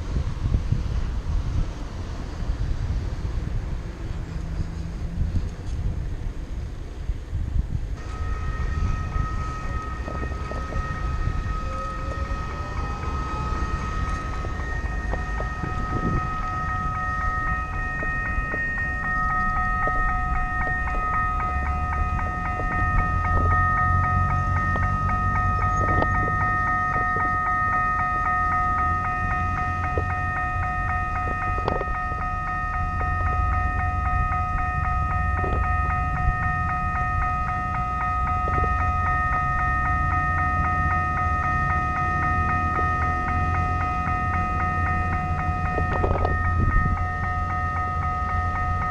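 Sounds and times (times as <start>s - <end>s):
low traffic rumble: 0.0s - 48.9s
high-pitched steady whine: 8.0s - 48.9s.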